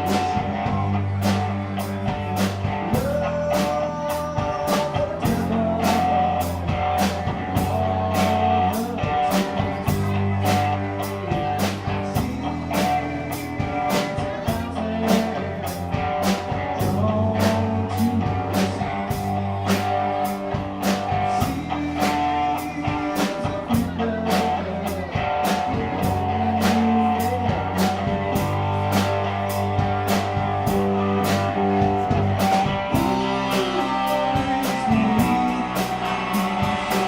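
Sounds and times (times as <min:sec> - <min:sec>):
bass: 0:00.0 - 0:37.0
drum kit beat: 0:00.0 - 0:37.0
electric guitar: 0:00.0 - 0:37.0.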